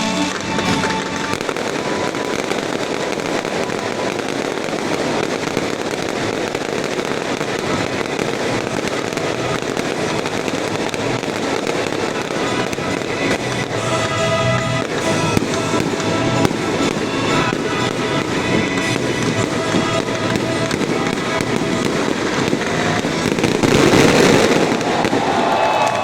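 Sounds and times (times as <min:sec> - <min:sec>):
fireworks popping and crackling: 0:00.0 - 0:26.0.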